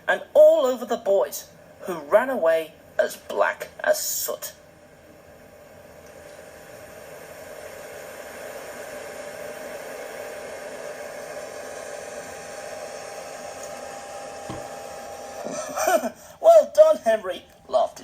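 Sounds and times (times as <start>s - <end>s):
steady hissing noise: 0.0s - 18.0s.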